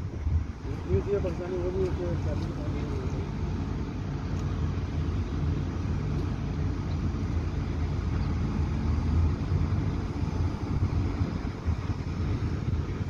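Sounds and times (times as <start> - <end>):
heavy machine engine rumbling: 0.0 - 13.0.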